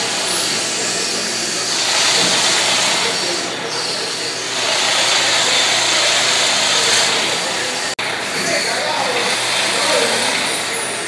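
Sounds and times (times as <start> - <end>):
cutter shaving spinning wood: 0.0 - 11.0
lathe humming: 0.0 - 11.0.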